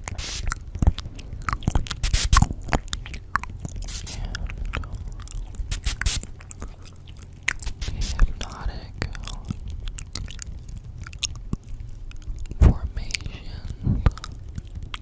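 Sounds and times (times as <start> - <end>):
mouth clicks and crackles: 0.0 - 15.0.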